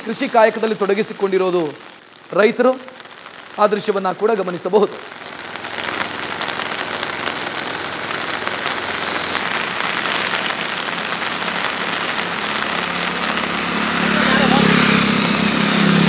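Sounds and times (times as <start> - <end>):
heavy rain on water: 0.0 - 16.0.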